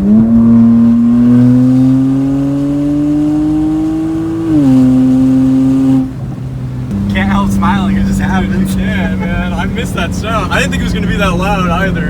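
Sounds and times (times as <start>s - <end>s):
loud car exhaust accelerating: 0.0s - 12.0s.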